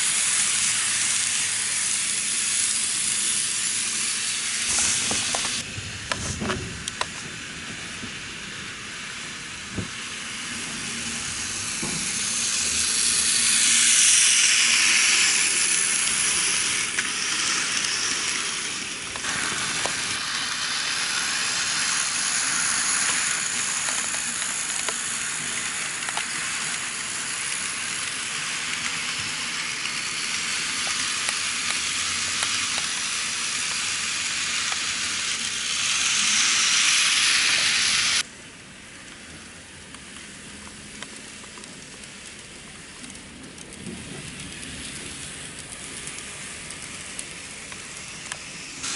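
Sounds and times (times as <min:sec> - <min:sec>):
model train hissing on rails: 0:00.0 - 0:48.9.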